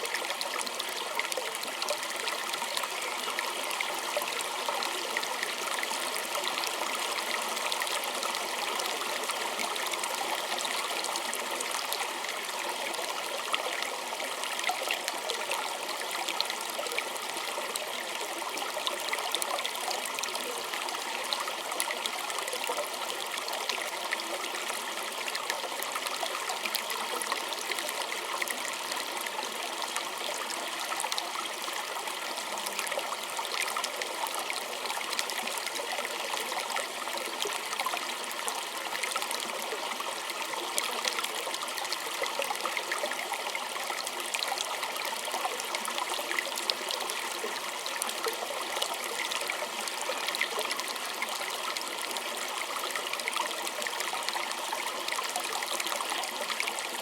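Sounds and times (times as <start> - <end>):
stream trickling over stones: 0.0 - 57.0.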